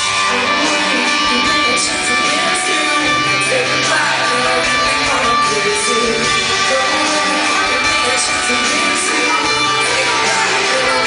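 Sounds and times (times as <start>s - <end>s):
electric guitar: 0.0s - 11.0s
live rock band through pa: 0.0s - 11.0s.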